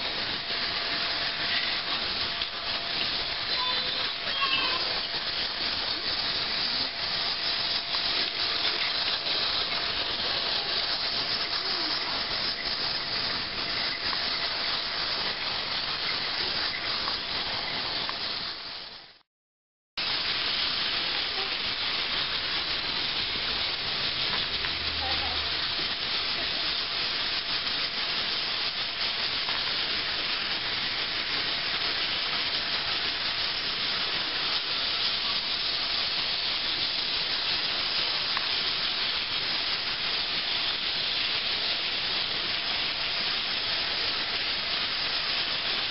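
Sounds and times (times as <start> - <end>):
toy trains whirring on track: 0.0 - 19.1, 20.0 - 45.9.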